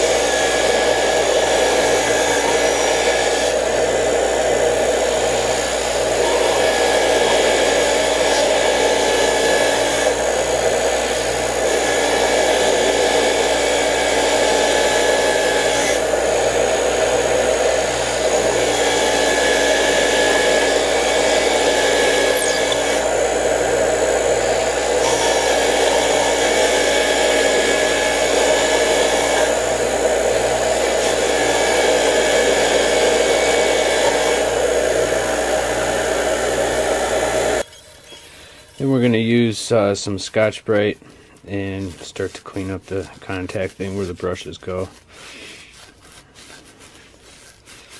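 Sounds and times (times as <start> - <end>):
bench grinder motor hum: 0.0 - 39.1
wire wheel scrubbing metal: 0.0 - 47.9.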